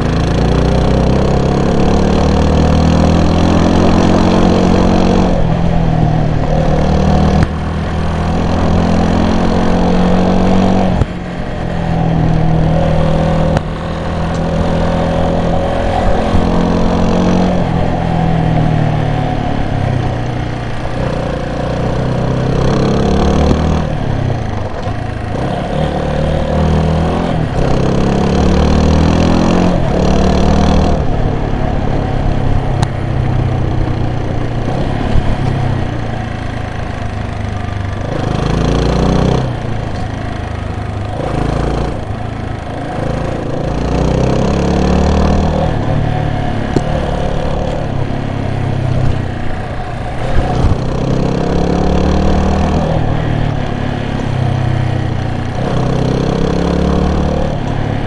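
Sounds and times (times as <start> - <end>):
knocks and rattles from road: 0.0 - 58.0
vehicle engine revving: 0.0 - 58.0.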